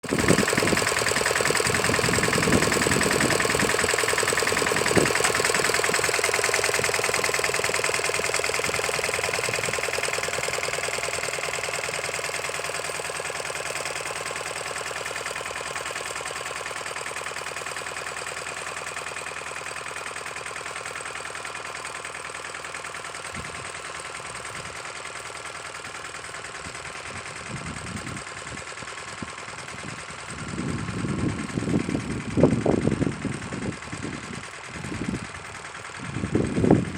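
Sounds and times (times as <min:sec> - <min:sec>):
walking tractor diesel engine: 0:00.0 - 0:36.9.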